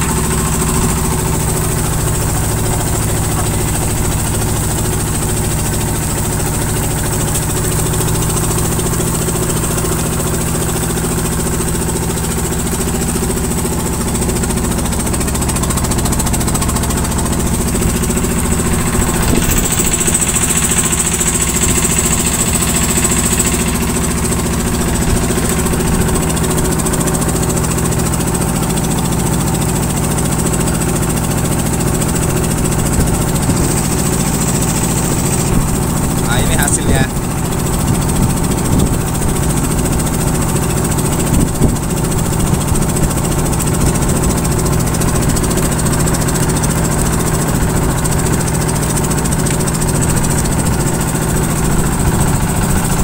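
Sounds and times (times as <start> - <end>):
boat engine drone: 0.0 - 53.0
high engine whine: 0.0 - 53.0.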